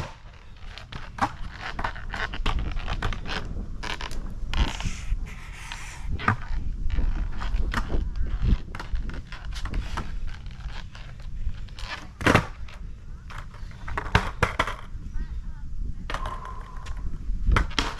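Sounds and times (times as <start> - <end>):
skateboard clicks and knocks: 0.0 - 15.0, 16.0 - 17.9
skateboard wheels rumbling on pavement: 0.0 - 17.9.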